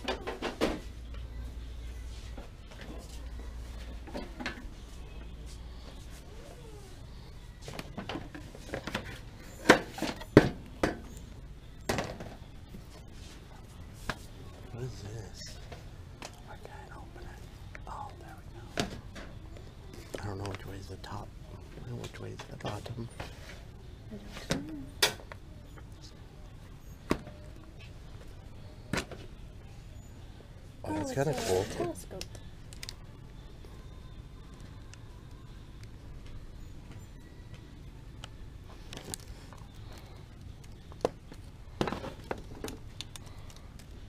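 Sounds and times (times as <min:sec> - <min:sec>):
faint background music: 0:00.0 - 0:44.0.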